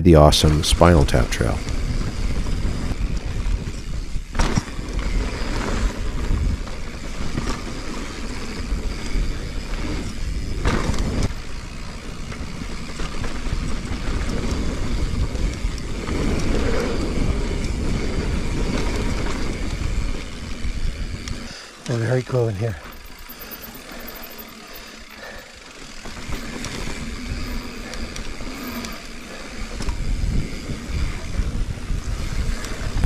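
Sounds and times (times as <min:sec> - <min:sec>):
bike tyres rumbling on dirt: 0:00.2 - 0:33.0
bike knocking and rattling: 0:01.6 - 0:33.0.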